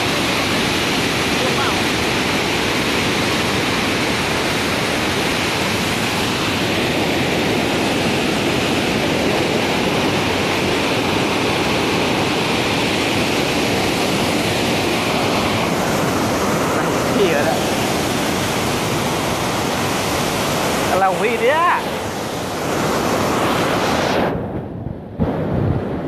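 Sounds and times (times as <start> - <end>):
floodwater pouring over waterfall: 0.0 - 24.0.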